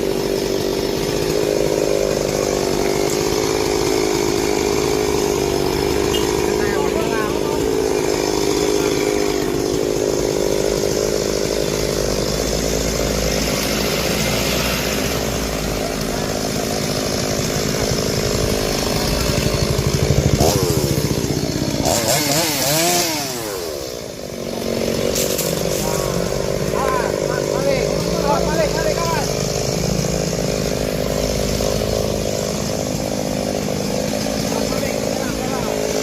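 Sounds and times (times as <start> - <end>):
chainsaw running: 0.0 - 36.0.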